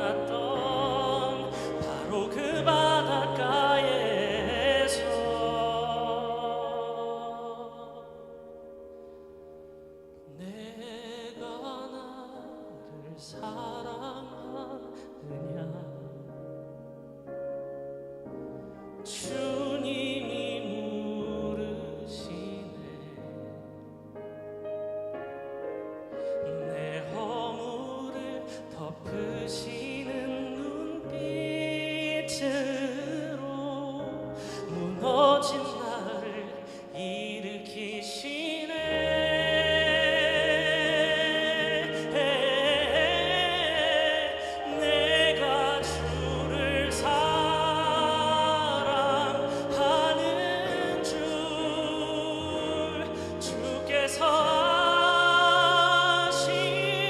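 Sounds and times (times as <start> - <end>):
person singing with vibrato: 0.0 - 9.2, 10.2 - 16.8, 19.0 - 23.8, 26.0 - 57.0.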